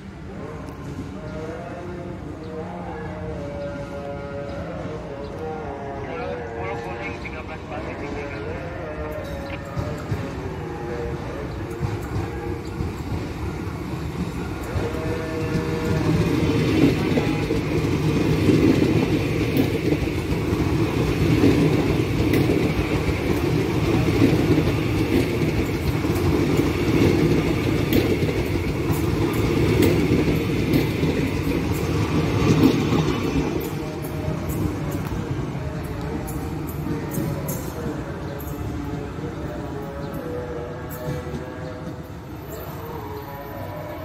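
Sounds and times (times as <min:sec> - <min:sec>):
train wheels rumbling on rails: 0:06.8 - 0:43.3.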